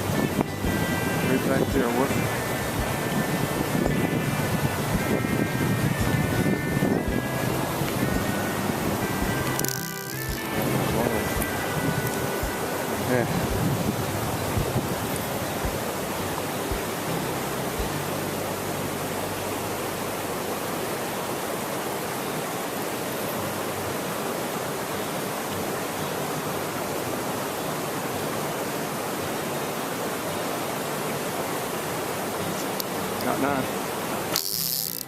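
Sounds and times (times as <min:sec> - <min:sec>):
river water rushing over rapids: 0:00.0 - 0:35.0.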